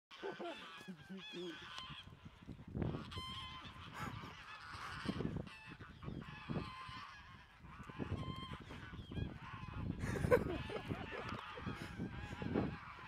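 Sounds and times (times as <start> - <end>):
geese honking: 0.1 - 13.0.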